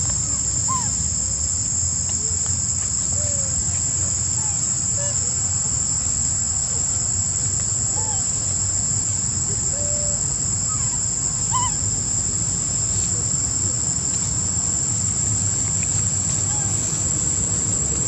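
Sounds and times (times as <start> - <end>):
insects droning in chorus: 0.0 - 18.0.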